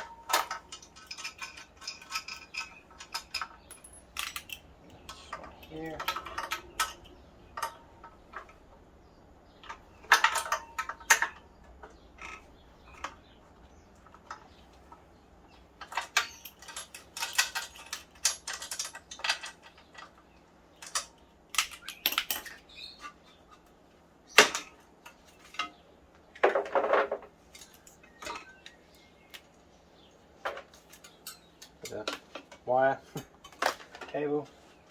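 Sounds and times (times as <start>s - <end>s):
metal tools clinking: 0.0s - 8.7s, 9.5s - 23.7s, 24.3s - 25.8s, 26.4s - 28.8s, 30.5s - 34.7s.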